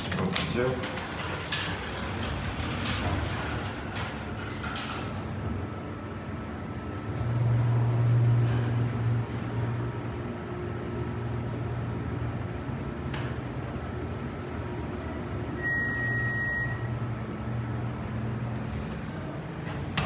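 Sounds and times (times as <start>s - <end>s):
elevator pump motor hum: 0.0s - 20.0s.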